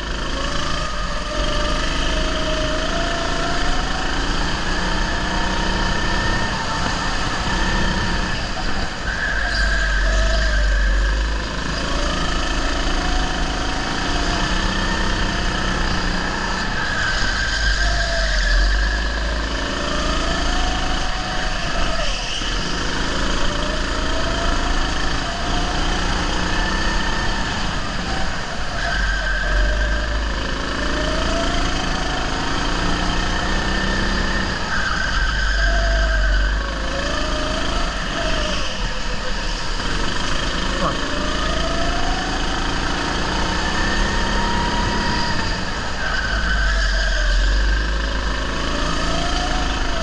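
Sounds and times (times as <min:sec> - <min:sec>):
go-kart engine revving: 0:00.0 - 0:50.0.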